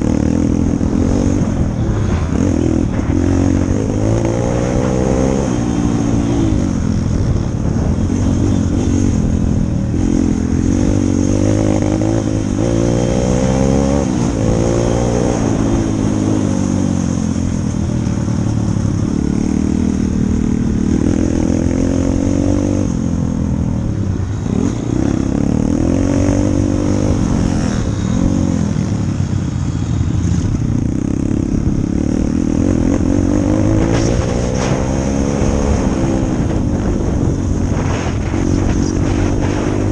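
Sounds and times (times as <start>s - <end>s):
motorbike engine revving: 0.0s - 23.5s, 24.2s - 39.9s.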